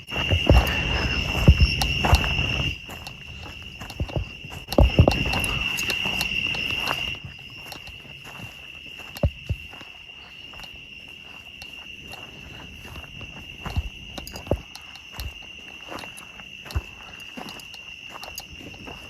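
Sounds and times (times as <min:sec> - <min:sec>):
footsteps on trail: 0:00.0 - 0:19.0
night insects trilling: 0:00.0 - 0:19.0.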